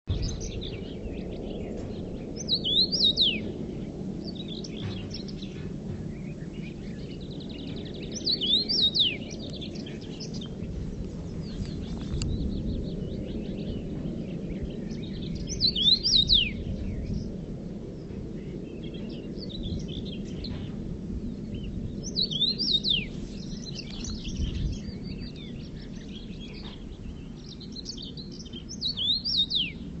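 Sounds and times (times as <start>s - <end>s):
steady low rumble: 0.0s - 30.0s
soft bird chirps: 0.1s - 17.4s, 21.4s - 30.0s.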